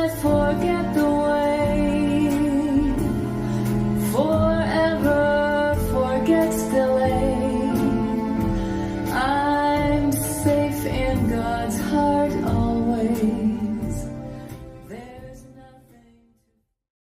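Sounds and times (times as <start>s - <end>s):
woman singing: 0.0s - 16.6s
soft song with instruments: 0.0s - 16.8s.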